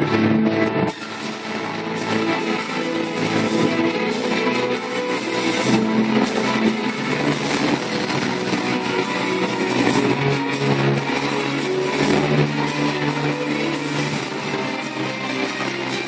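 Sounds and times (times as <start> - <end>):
guitar music over loudspeaker: 0.0 - 16.0.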